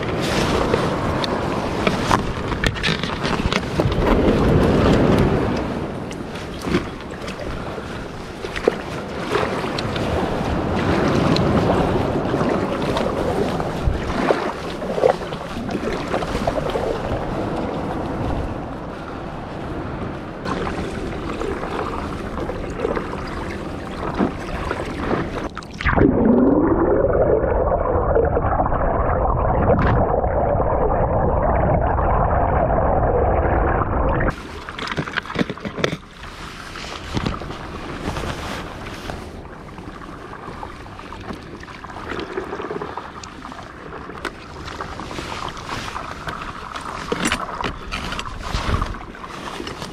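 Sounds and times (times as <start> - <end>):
paddle strokes splashing water: 0.0 - 27.3, 34.3 - 49.9
wind on microphone: 0.0 - 49.9.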